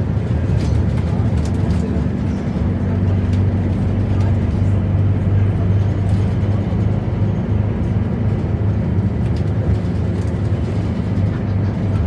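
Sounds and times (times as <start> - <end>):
bus diesel engine drone: 0.0 - 12.0
road and body noise: 0.0 - 12.0.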